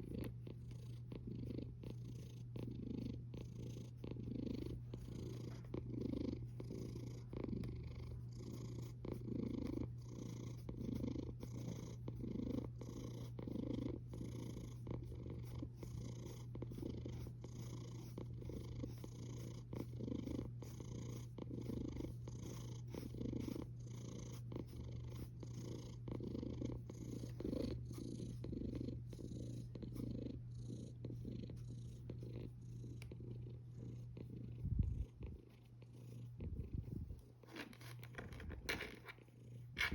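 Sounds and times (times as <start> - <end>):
cat snoring: 1.2 - 35.1.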